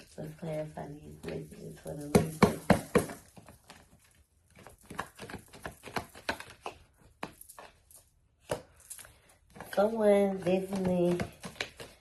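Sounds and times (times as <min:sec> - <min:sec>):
cards shuffled on table: 0:01.2 - 0:12.0.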